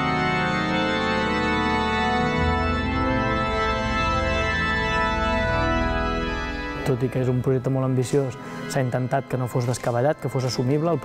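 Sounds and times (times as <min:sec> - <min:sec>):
pipe organ sustained chords: 0:00.0 - 0:11.0.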